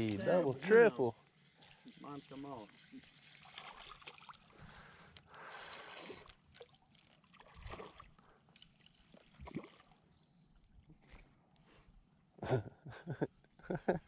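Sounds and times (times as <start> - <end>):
water splashing and trickling: 0.0 - 11.4.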